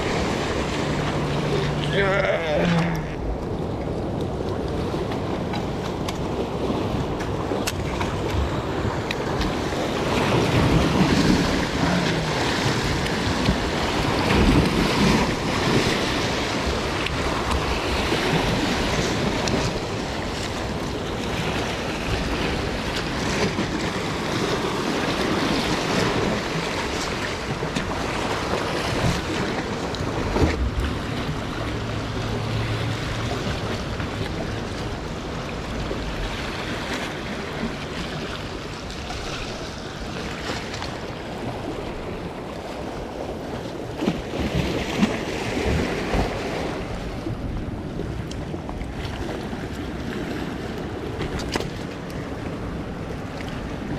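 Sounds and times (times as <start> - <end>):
ocean surf breaking on beach: 0.0 - 53.9.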